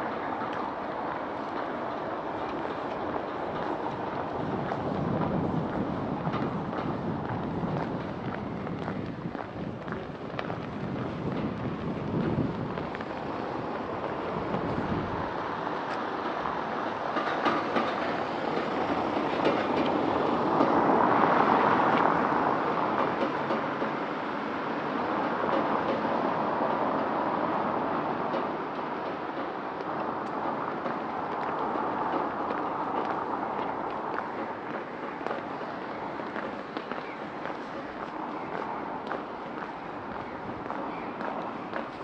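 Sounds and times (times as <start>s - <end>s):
train rolling past: 0.0s - 42.0s.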